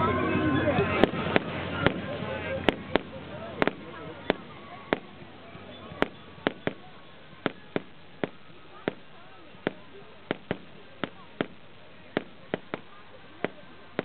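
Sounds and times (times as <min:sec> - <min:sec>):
fireworks bangs: 0:00.8 - 0:14.0.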